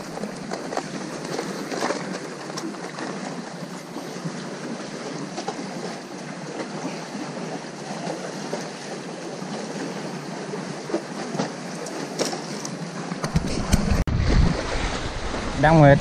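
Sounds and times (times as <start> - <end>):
sea waves at the shore: 0.0 - 16.0.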